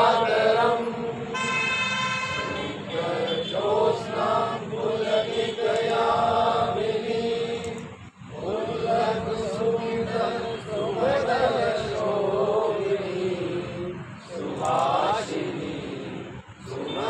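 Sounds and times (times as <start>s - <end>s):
crowd chanting in unison: 0.0s - 1.4s, 2.4s - 17.0s.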